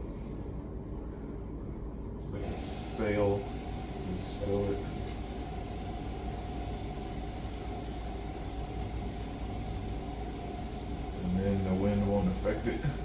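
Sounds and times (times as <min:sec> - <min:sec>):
faint constant whine: 0:00.0 - 0:13.0
low mechanical hum: 0:00.0 - 0:13.0
hiss: 0:02.2 - 0:13.0.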